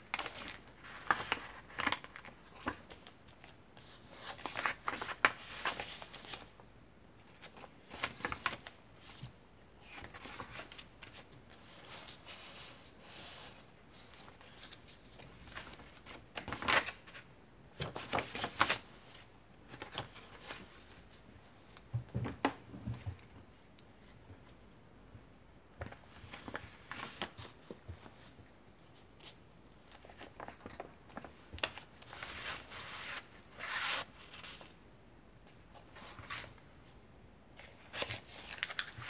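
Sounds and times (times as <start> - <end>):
paper pages rustling: 0.0 - 6.6, 7.2 - 21.8, 25.8 - 34.8, 37.6 - 39.0.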